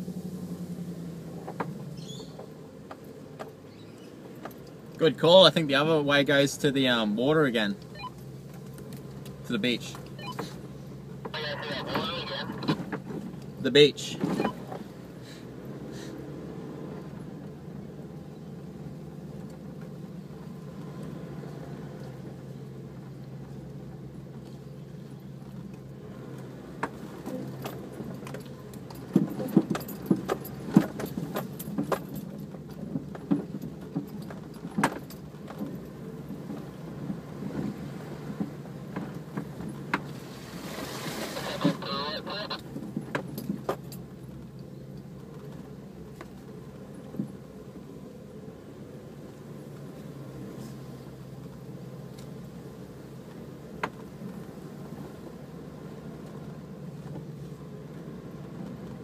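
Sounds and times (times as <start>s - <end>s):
rattles and knocks off-road: 0.0s - 59.0s
vehicle engine droning: 0.0s - 59.0s.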